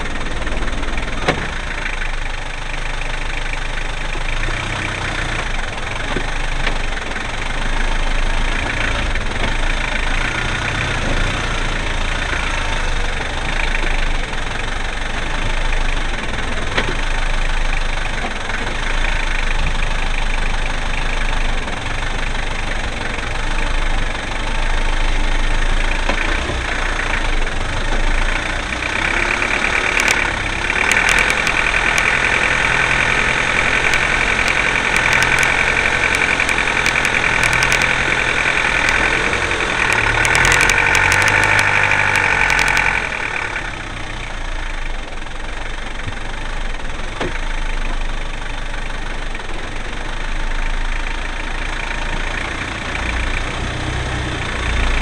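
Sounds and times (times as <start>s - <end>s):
engine knock: 0.0s - 55.0s
engine running: 0.0s - 55.0s.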